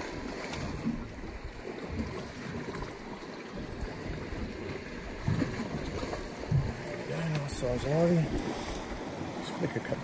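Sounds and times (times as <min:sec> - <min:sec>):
water sloshing and lapping: 0:00.0 - 0:10.0.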